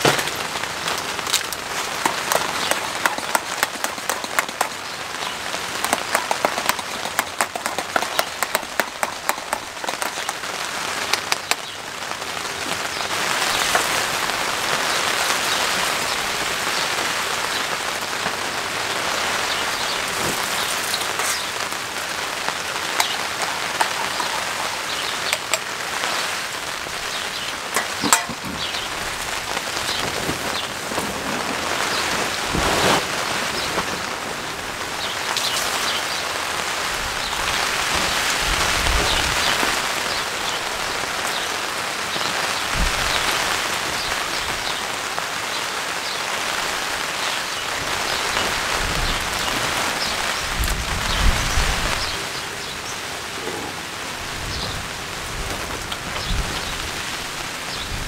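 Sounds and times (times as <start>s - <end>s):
heavy rain rushing: 0.0s - 58.0s
rain drops tapping on tarp: 0.0s - 58.0s.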